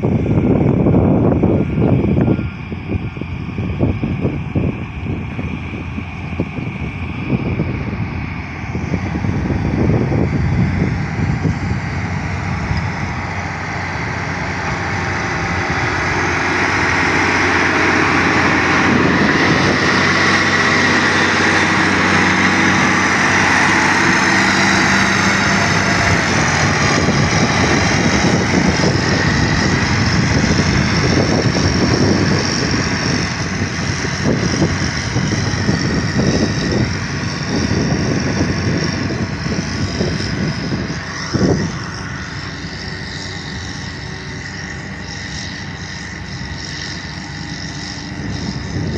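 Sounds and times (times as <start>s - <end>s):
heavy machine engine running: 0.0s - 48.9s.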